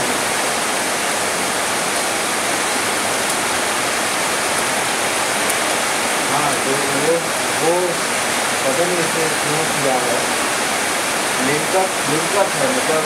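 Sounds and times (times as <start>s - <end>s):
heavy rain on foliage: 0.0s - 13.0s.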